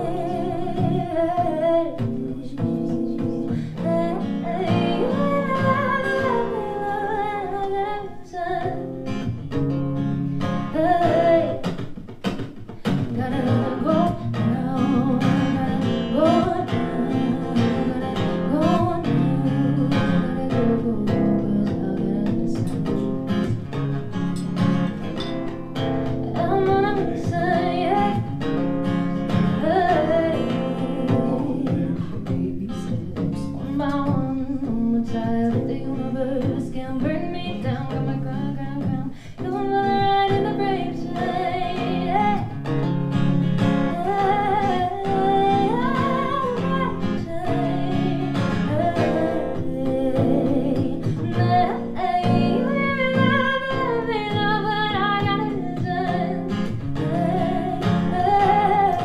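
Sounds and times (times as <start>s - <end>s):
acoustic guitar strumming: 0.0s - 59.0s
woman singing: 0.0s - 59.0s.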